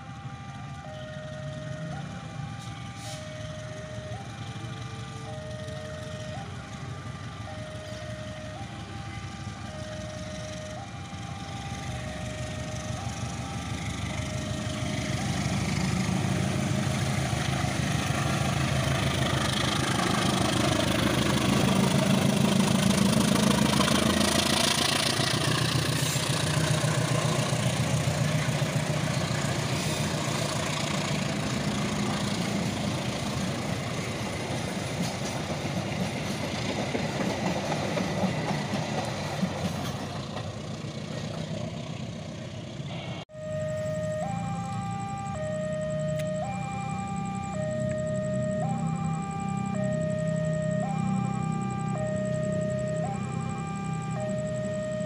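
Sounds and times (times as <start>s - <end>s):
level-crossing alarm two-tone chimes: 0.0s - 32.7s, 43.3s - 55.0s
diesel locomotive engine working hard: 0.0s - 55.0s
train coaches rolling by: 0.0s - 55.0s.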